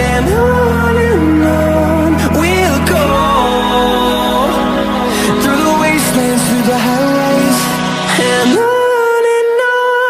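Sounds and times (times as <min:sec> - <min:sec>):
background pop music: 0:00.0 - 0:10.0
long held note: 0:00.3 - 0:08.9.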